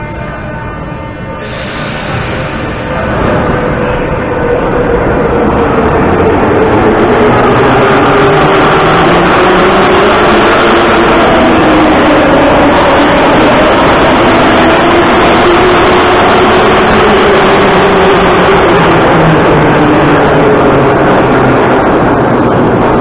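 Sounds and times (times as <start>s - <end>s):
metro train rumbling on rails: 0.0s - 23.0s.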